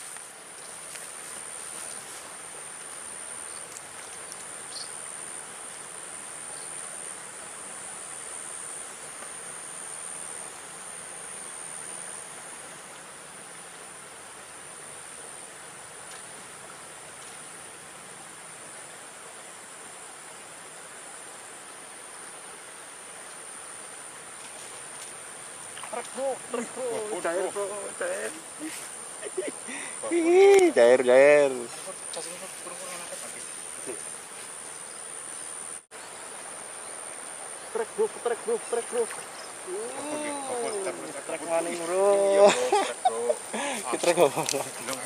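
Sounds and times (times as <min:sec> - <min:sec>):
background hiss: 0:00.0 - 0:45.0
insects chirring: 0:00.0 - 0:45.0.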